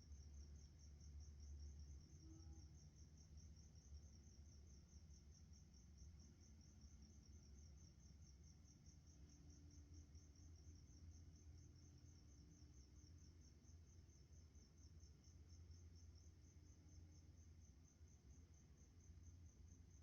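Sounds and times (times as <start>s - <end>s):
night insects chirping: 0.0s - 20.0s.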